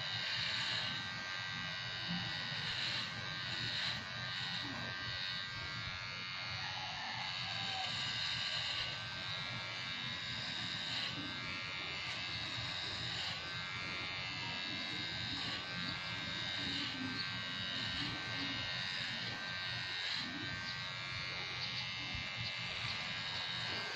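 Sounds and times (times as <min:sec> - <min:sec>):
electric hair clippers buzzing: 0:00.0 - 0:23.9.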